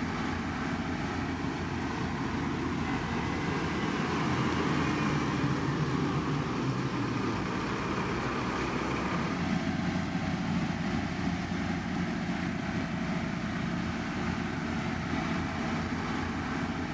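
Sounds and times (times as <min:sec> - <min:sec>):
construction machinery diesel rumble: 0:00.0 - 0:16.9.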